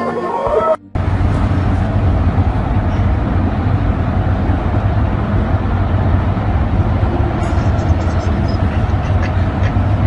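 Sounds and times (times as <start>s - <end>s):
low rumbling noise: 0.4s - 10.0s.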